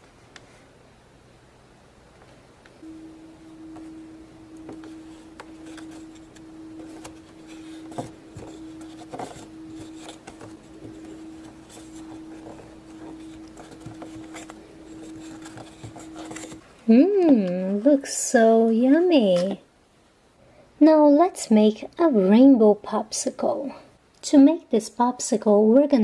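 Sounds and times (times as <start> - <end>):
steady hum: 0.0 - 24.8.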